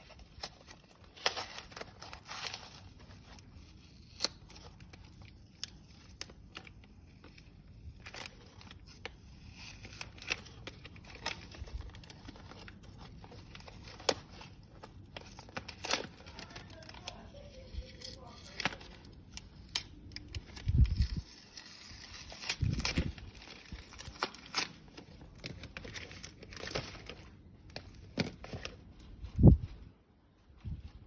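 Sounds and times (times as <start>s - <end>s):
packaging crinkling and tearing: 0.0s - 29.1s.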